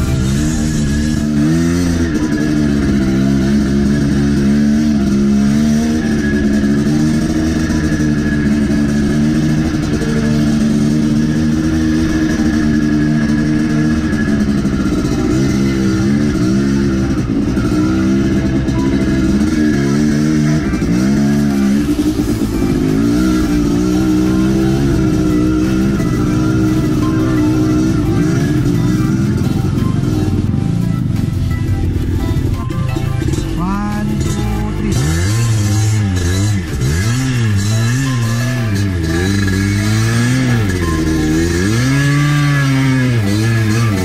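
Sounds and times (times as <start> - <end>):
dirt bike engine running: 0.0 - 44.0.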